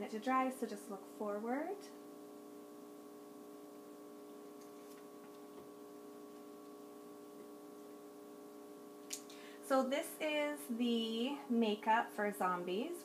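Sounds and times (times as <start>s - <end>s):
faint hum of held tones: 0.0s - 13.0s.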